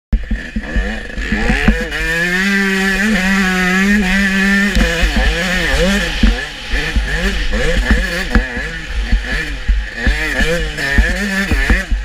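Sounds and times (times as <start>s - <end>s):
motocross bike engine revving: 0.1s - 12.0s.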